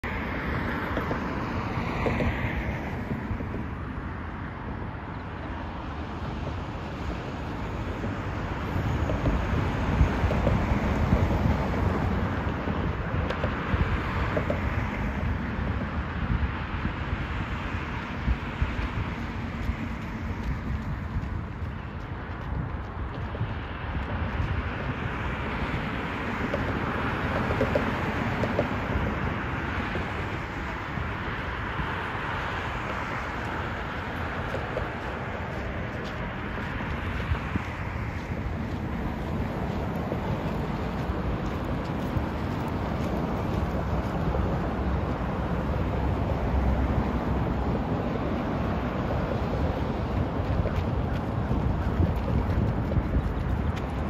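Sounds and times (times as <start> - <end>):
road traffic passing: 0.0 - 54.0
wind rumbling on microphone: 0.0 - 54.0.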